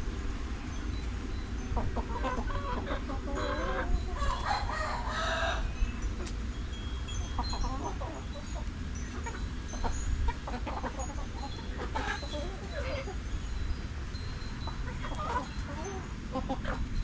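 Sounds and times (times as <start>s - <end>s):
chickens clucking: 0.7s - 17.0s.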